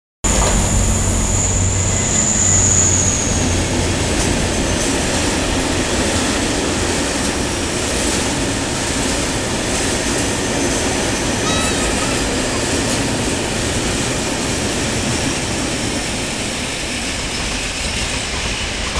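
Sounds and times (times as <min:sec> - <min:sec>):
train wheels rumbling: 0:00.2 - 0:18.9.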